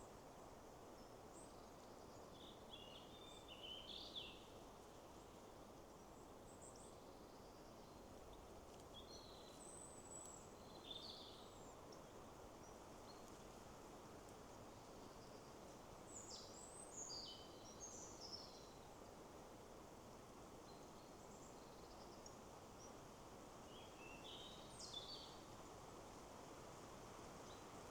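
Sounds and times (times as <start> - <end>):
wind through trees: 0.0 - 27.9.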